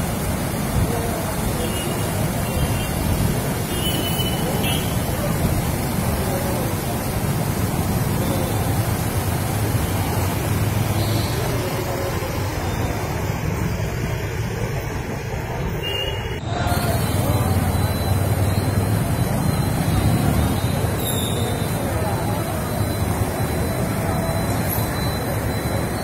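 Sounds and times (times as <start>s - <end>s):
floodwater rushing and churning: 0.0s - 26.0s.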